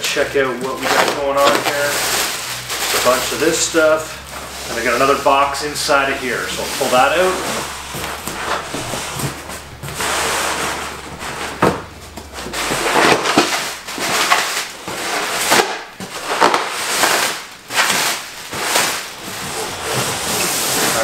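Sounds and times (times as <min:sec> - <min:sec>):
cardboard and plastic packing crinkling: 0:00.0 - 0:21.0.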